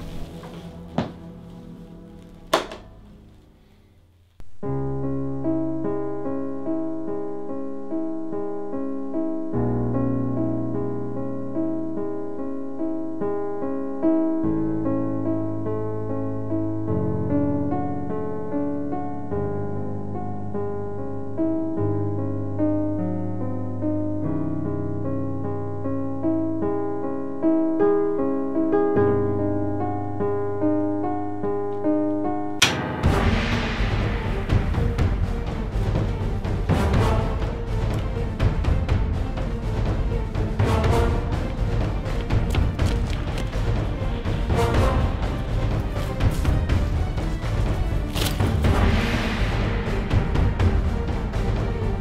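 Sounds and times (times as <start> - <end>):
slow piano melody: 0.0 - 52.0.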